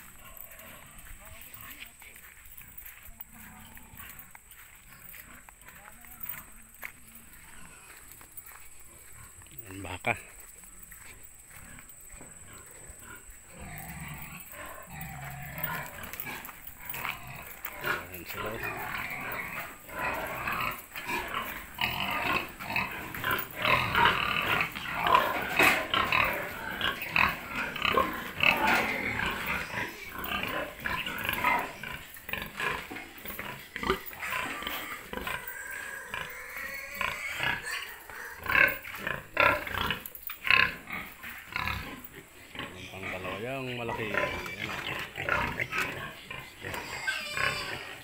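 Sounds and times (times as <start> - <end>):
pigs grunting and squealing: 0.0 - 1.8, 2.6 - 8.2, 8.8 - 48.0.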